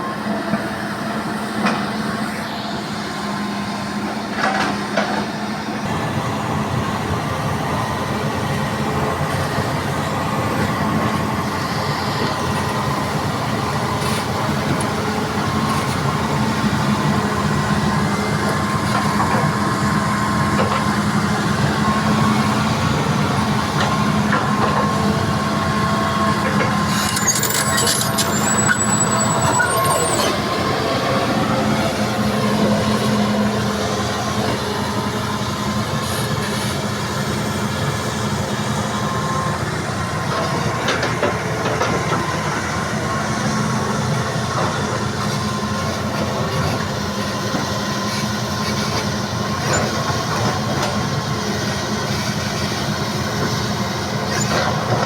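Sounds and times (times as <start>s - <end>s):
heavy diesel machinery engine hum: 0.0s - 55.0s.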